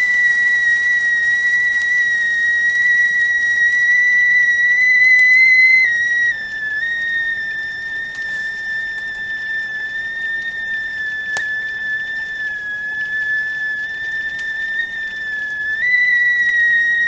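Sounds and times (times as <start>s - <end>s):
kettle whistling: 0.0s - 17.0s
steam hissing: 0.0s - 17.0s.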